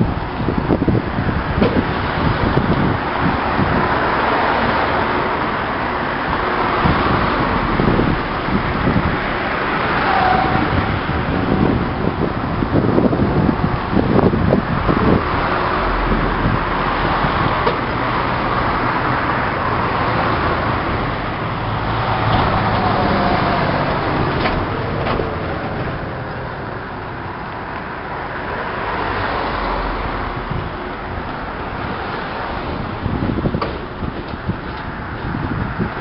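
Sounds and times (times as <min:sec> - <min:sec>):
traffic noise: 0:00.0 - 0:36.0
electric train rumbling past: 0:01.4 - 0:35.9.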